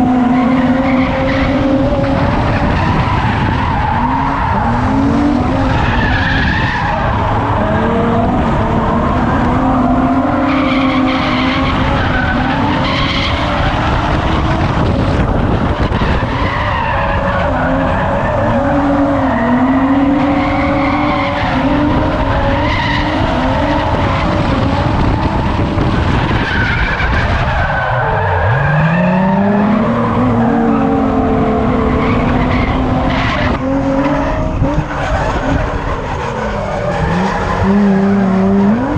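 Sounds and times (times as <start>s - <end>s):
car engine revving: 0.0s - 38.9s
tyres skidding: 0.0s - 38.9s.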